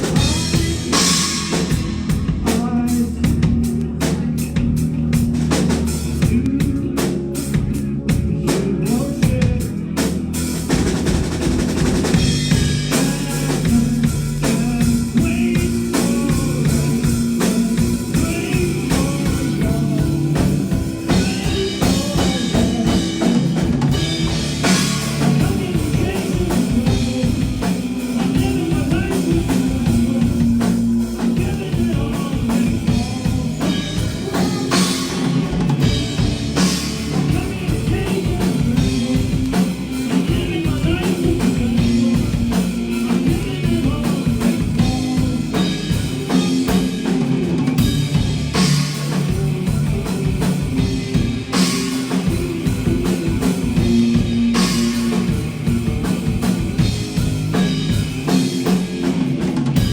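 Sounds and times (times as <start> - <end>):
bass line: 0.0 - 59.9
drum kit: 0.0 - 59.9
live rock band playing: 0.0 - 59.9.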